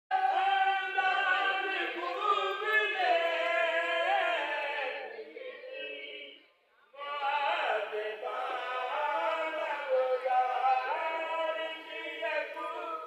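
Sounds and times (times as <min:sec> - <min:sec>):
group singing a cappella: 0:00.1 - 0:13.0.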